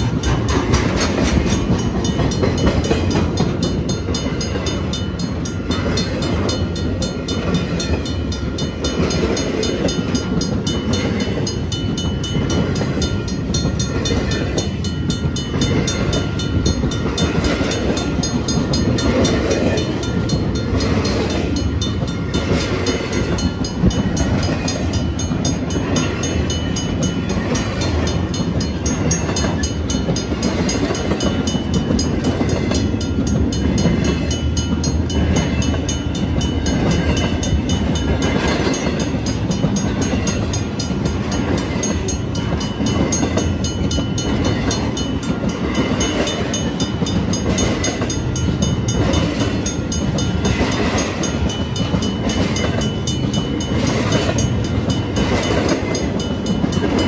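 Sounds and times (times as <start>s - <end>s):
faint crossing signal bell: 0.0s - 57.0s
freight train wheels rumbling: 0.0s - 57.0s.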